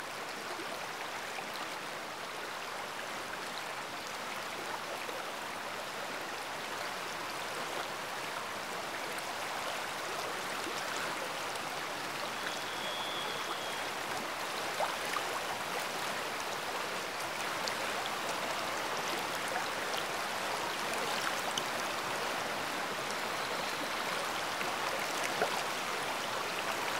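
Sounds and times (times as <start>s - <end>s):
running water rushing: 0.0s - 26.9s.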